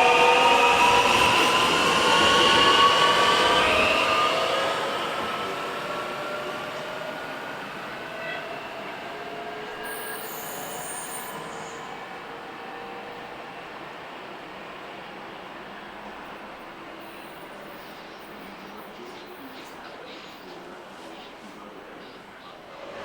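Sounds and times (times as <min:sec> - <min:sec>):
train running on track: 0:00.0 - 0:23.0.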